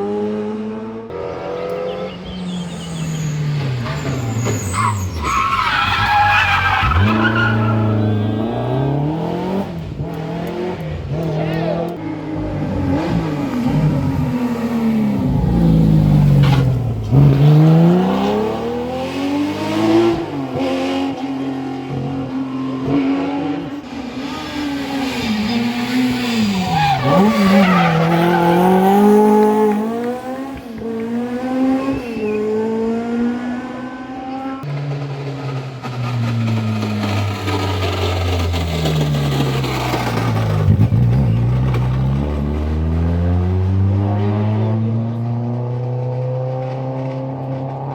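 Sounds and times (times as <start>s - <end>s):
rally car engines revving: 0.0s - 47.9s
lower-pitched engine: 0.8s - 47.9s.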